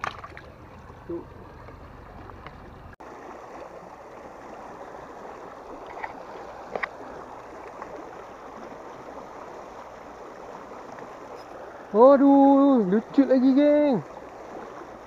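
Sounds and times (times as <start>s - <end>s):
water gushing into river: 0.0s - 15.0s.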